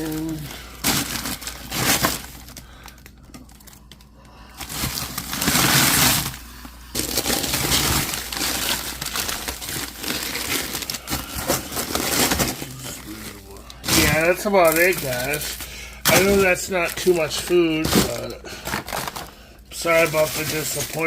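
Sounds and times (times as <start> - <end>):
plastic food packages rustling: 0.0 - 21.0.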